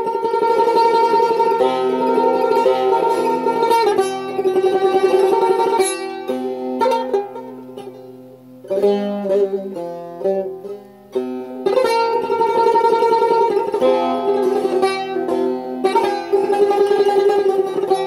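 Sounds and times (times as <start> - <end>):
plucked lute notes: 0.0 - 18.0.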